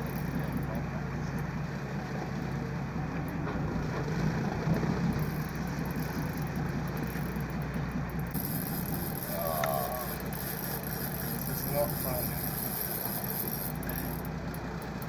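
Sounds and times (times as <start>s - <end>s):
boat engine idling: 0.0s - 15.0s
sea noise: 0.0s - 15.0s
wind: 0.0s - 15.0s.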